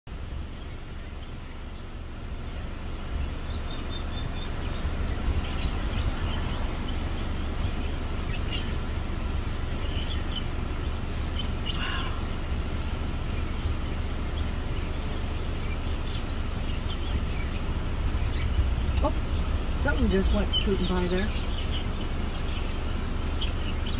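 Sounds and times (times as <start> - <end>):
steady low rumble: 0.1 - 23.9
bird calls and chirps: 0.4 - 23.9.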